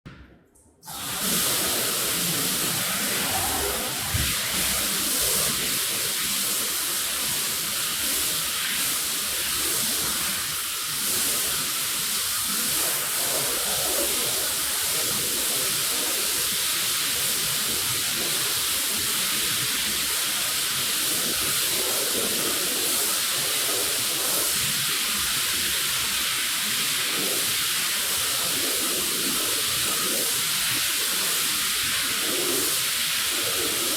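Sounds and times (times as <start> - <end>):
pressure washer spraying water: 0.9 - 33.9.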